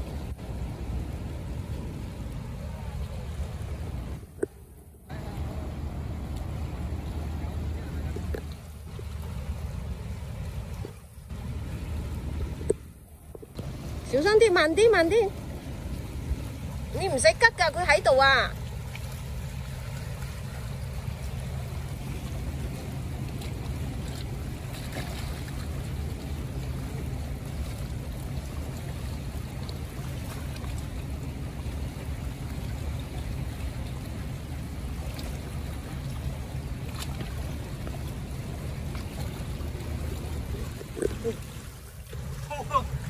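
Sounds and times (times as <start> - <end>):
choppy sea water against seawall: 0.0 - 43.0.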